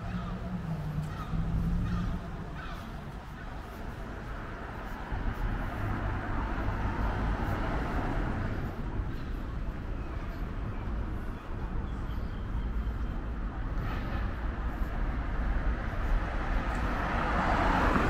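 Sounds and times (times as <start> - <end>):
vehicle passing: 0.0 - 18.0.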